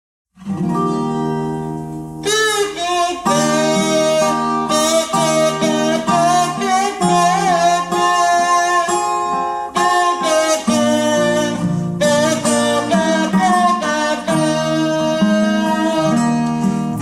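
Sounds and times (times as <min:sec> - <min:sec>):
guitar chords: 0:00.4 - 0:17.0
wavering held melody line: 0:00.9 - 0:17.0.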